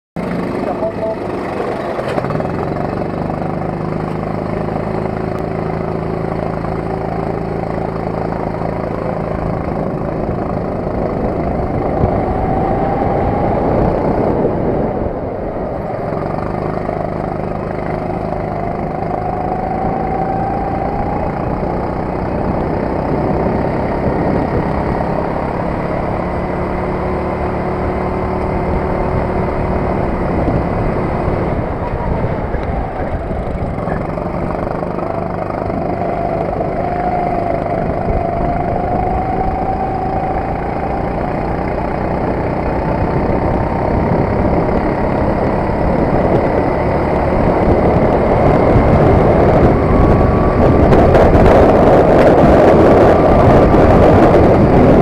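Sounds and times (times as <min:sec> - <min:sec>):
kart engine revving: 0:00.2 - 0:55.0.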